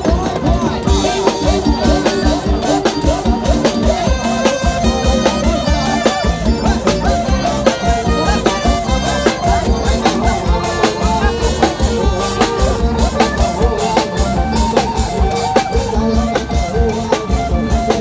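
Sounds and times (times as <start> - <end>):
brass band playing folk-pop tune: 0.0 - 18.0
fast steady drum beat: 0.0 - 18.0.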